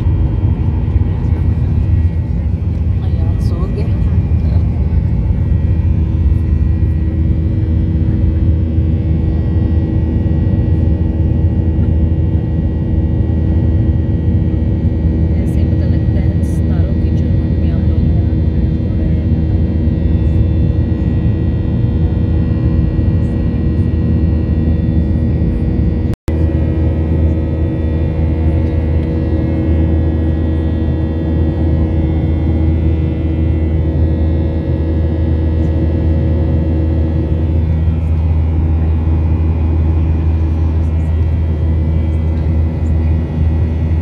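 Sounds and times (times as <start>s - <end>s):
airliner engines and rushing air: 0.0s - 44.0s.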